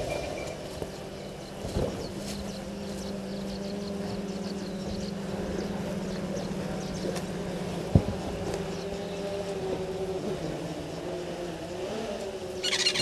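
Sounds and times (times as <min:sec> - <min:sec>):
small birds chirping: 0:00.0 - 0:07.8, 0:08.4 - 0:13.0
low mechanical hum: 0:00.0 - 0:13.0.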